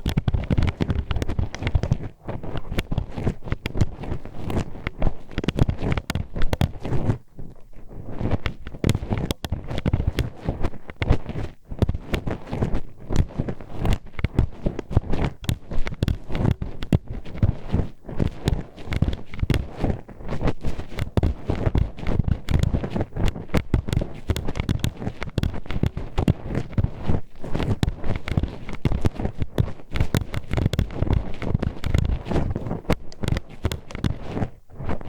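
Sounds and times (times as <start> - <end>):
hairpin scraping microphone: 0.0 - 35.0.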